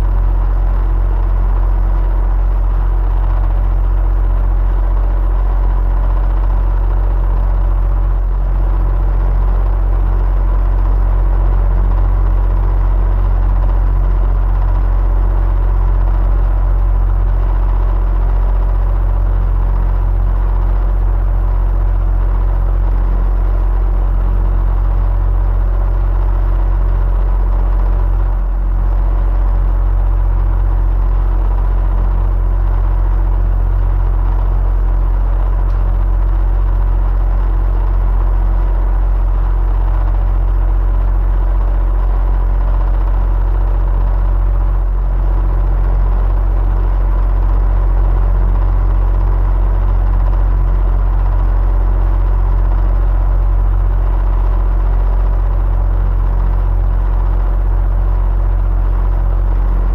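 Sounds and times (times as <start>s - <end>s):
electric fan humming: 0.0s - 51.6s.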